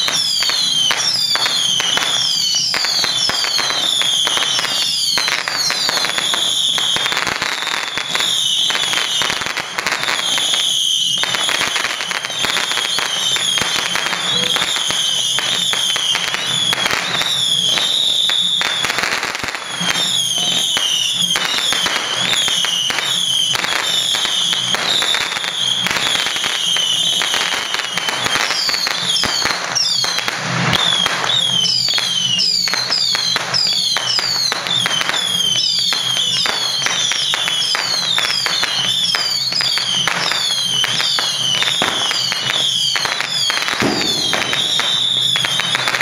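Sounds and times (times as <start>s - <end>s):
firecrackers crackling: 0.0s - 46.0s
high whistling tone: 0.0s - 46.0s.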